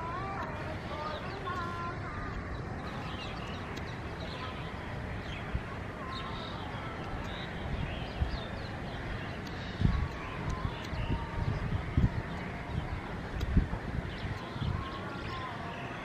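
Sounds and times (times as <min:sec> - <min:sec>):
city background hum: 0:00.0 - 0:16.0
faint distant voices: 0:00.0 - 0:16.0.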